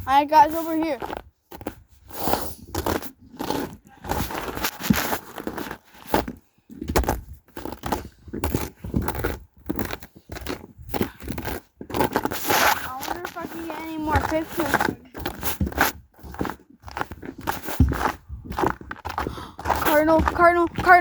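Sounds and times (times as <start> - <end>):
footsteps crunching on ice: 0.1 - 21.0.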